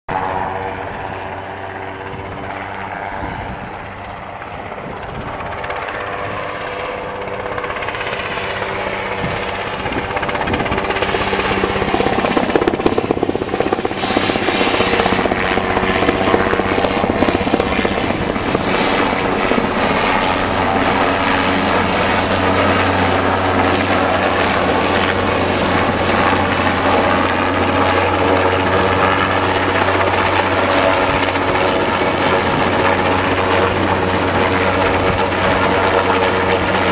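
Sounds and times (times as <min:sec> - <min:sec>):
helicopter rotor and engine drone: 0:00.1 - 0:36.9.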